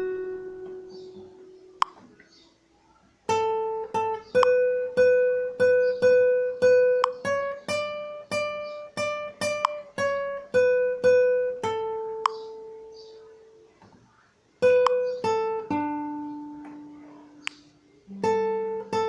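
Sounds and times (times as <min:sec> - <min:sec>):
acoustic guitar plucked melody: 0:00.0 - 0:02.6, 0:03.2 - 0:19.0.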